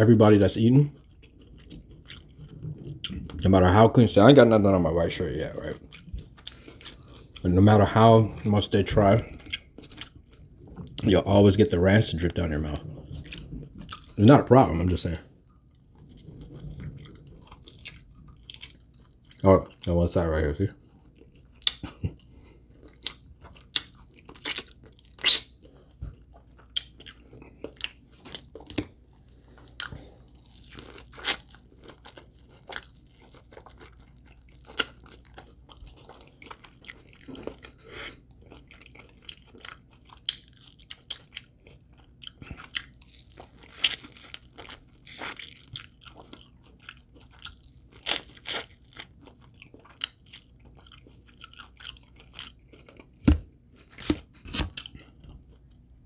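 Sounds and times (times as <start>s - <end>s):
person chewing crunchy food: 0.8s - 3.8s, 4.4s - 11.3s, 12.2s - 14.8s, 15.4s - 20.0s, 20.7s - 56.0s.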